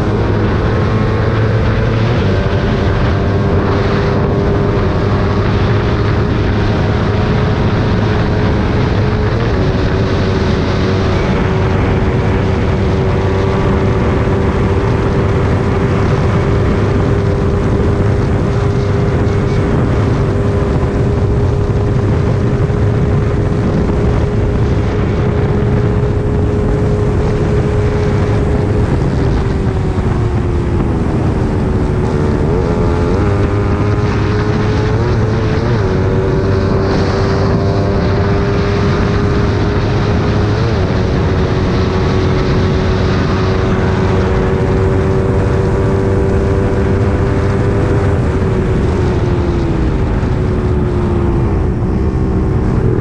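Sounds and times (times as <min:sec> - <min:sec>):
motorcycle engine revving: 0:00.0 - 0:53.0
wind noise on microphone: 0:00.0 - 0:53.0.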